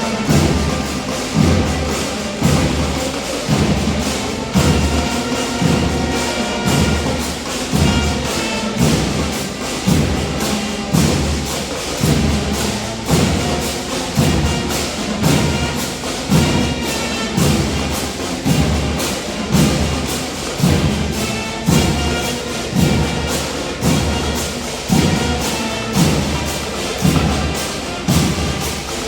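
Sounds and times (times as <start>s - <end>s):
heavy bass drum strokes: 0.0s - 29.0s
held melody on pitched instruments: 0.0s - 29.0s.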